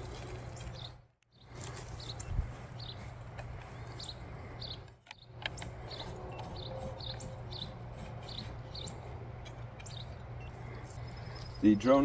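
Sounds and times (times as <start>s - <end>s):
bird chirping: 0.5s - 12.0s.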